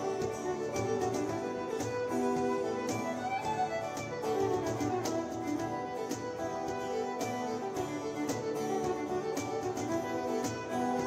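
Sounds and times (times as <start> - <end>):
acoustic guitar: 0.0 - 11.0
cajon beat: 0.0 - 11.0
fiddle tune: 0.0 - 11.0.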